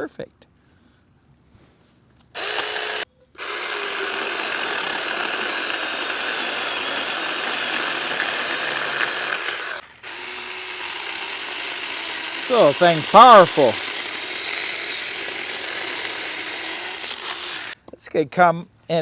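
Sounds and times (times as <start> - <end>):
chainsaw cutting wood: 2.4 - 17.8.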